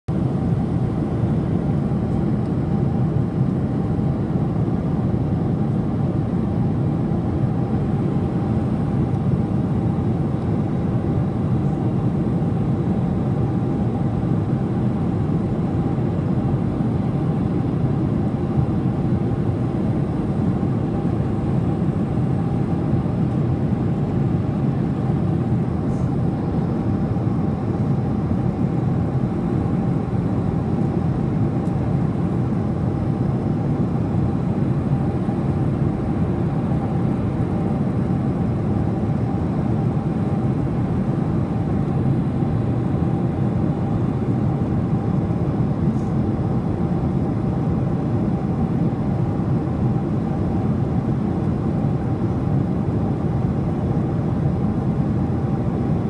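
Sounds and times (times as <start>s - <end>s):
airliner cabin engine rush: 0.1s - 56.0s.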